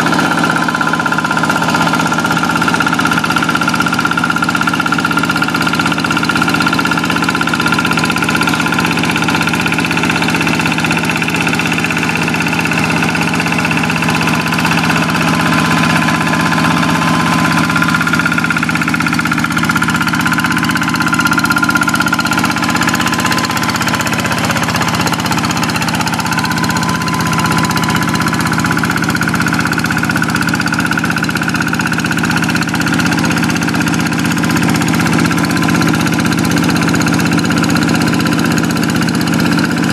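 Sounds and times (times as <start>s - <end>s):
hand tractor diesel engine running: 0.0s - 39.9s.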